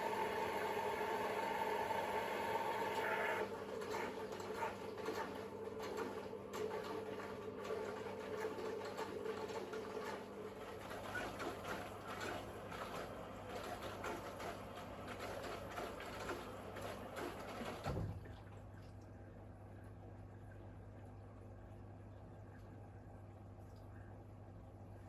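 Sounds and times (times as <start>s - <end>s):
washing machine motor hum: 0.0s - 25.0s.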